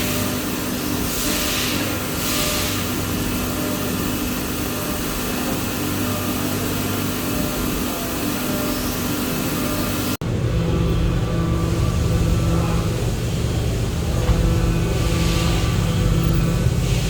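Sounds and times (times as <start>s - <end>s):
cnc machine humming and whirring: 0.0s - 17.0s.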